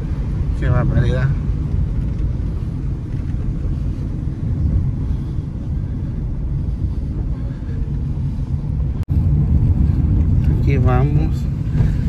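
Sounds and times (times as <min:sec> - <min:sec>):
car driving interior rumble: 0:00.0 - 0:12.0.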